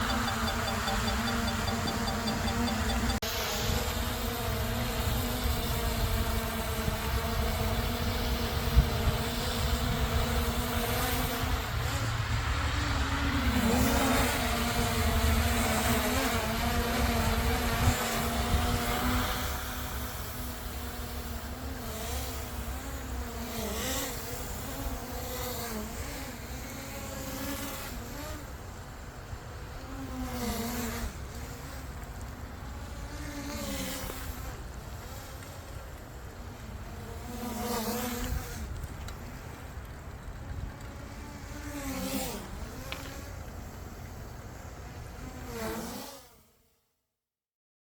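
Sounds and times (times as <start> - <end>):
drone buzzing in flight: 0.0 - 45.5.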